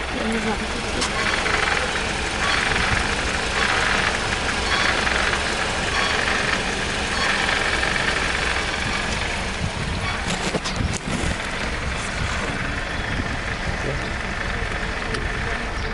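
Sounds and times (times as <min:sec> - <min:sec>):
car engine idling: 0:00.0 - 0:15.9
clutch squeaking: 0:00.0 - 0:15.9.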